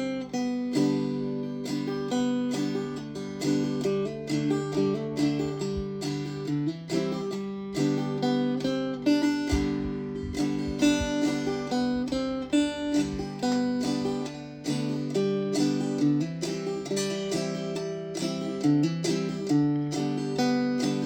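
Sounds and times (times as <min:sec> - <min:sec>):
banjo plucking and strumming: 0:00.0 - 0:21.0.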